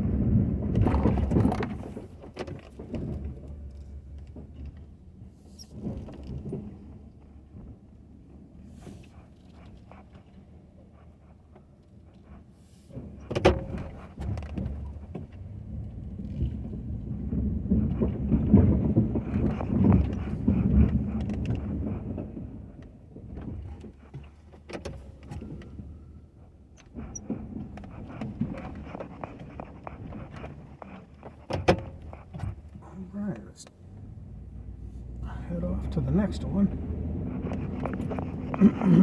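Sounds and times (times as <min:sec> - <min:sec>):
pickup truck engine rumble: 0:00.0 - 0:39.0.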